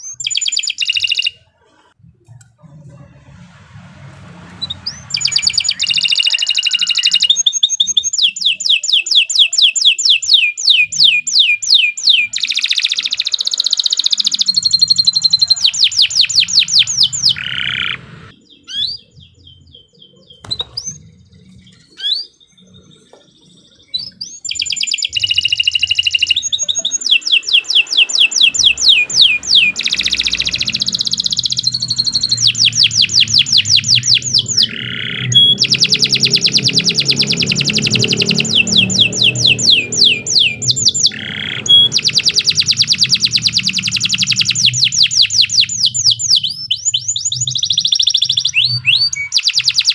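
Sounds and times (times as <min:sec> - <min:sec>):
canary singing trills: 0:00.0 - 0:03.4, 0:04.1 - 0:49.9.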